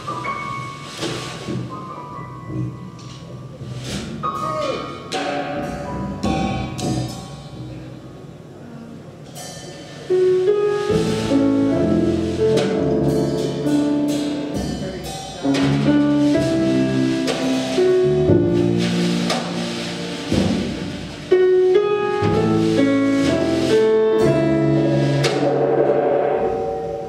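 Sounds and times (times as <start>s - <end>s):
jazz trio playing: 0.0s - 27.0s.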